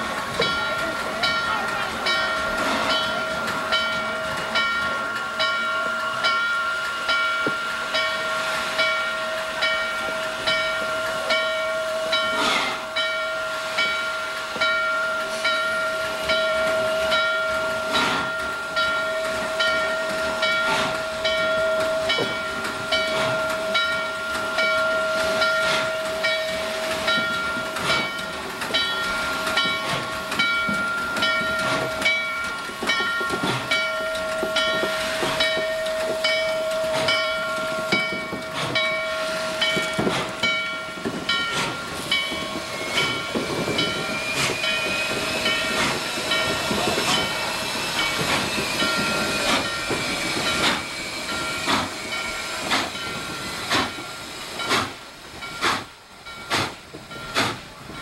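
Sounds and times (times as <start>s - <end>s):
locomotive bell ringing: 0.0s - 58.0s
steam hissing: 0.0s - 58.0s
steam locomotive whine: 0.0s - 58.0s.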